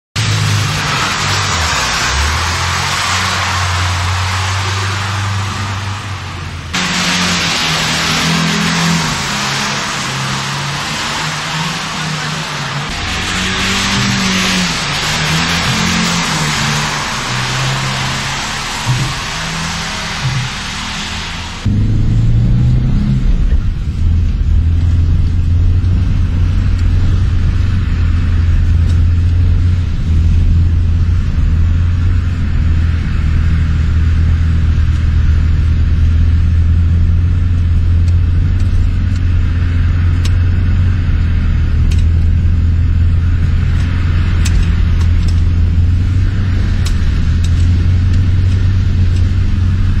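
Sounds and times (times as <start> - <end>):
car engine drone: 0.1 - 50.0
road rumble: 0.1 - 50.0.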